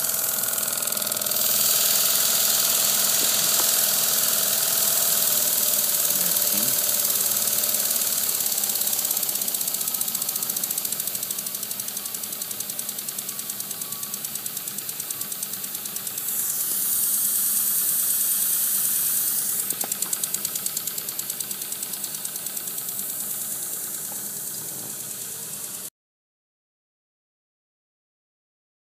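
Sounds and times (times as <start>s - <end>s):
model air engine chuffing: 0.0s - 25.9s
steady air hiss: 0.0s - 25.9s.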